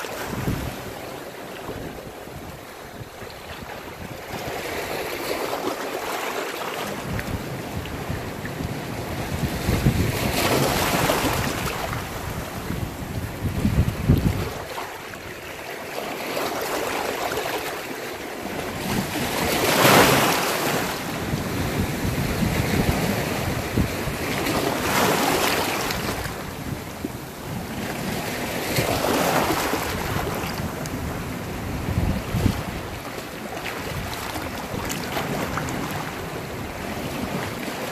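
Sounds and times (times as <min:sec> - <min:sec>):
wind on microphone: 0:00.0 - 0:05.8, 0:06.8 - 0:15.5, 0:18.4 - 0:37.9
waves washing on rocky shore: 0:00.0 - 0:37.9.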